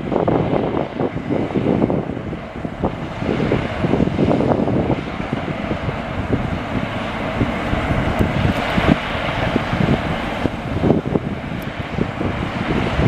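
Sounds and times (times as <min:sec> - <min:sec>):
heavy equipment rumbling: 0:00.0 - 0:13.0.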